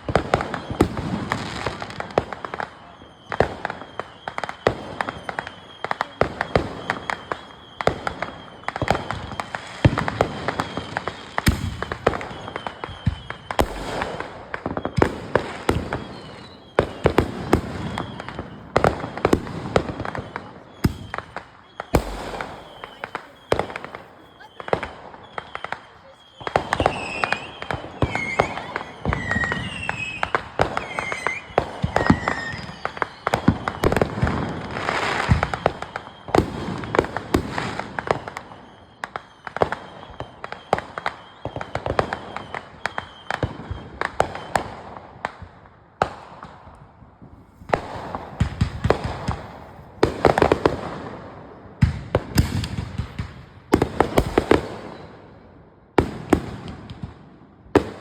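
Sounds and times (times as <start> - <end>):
high firework whistles: 0.0 - 44.9, 47.2 - 55.2
fireworks bangs and crackling pops: 0.0 - 58.0.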